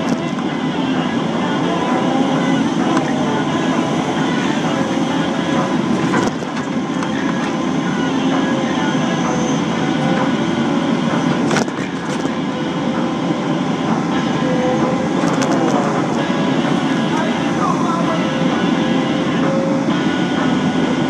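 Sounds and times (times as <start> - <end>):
excavator engine rumbling: 0.0 - 21.0.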